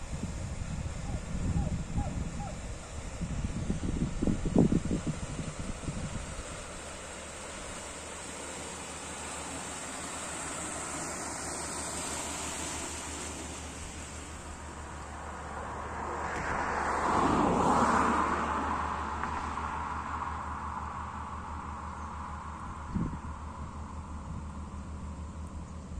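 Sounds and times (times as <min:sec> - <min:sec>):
water rushing along hull: 0:00.0 - 0:24.2
boat engine drone: 0:00.0 - 0:25.9.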